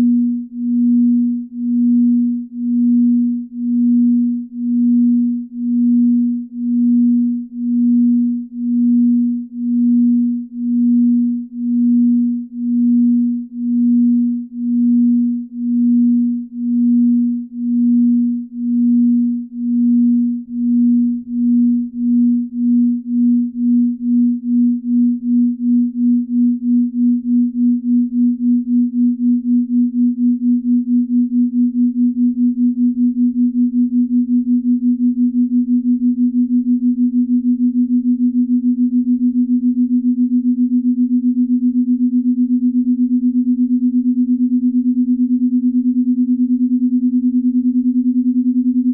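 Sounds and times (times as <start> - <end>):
pulsing low pure tone: 0.0 - 48.9.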